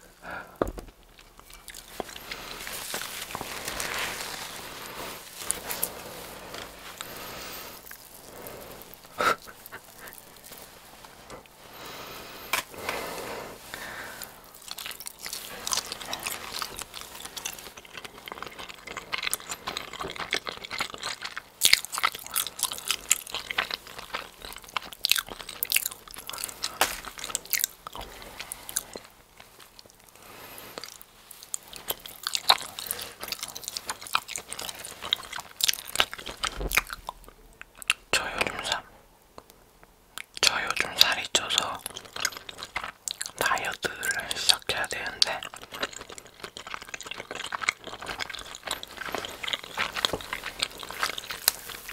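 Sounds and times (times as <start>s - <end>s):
crunchy chewing and biting: 0.7s - 39.5s, 40.2s - 51.9s.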